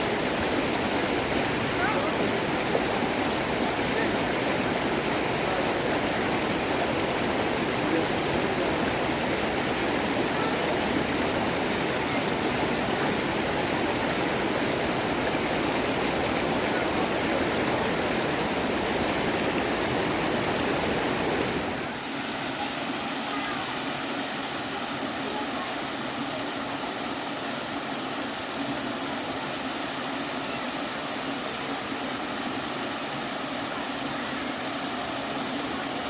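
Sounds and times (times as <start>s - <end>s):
stream cascading over rocks: 0.0s - 36.0s.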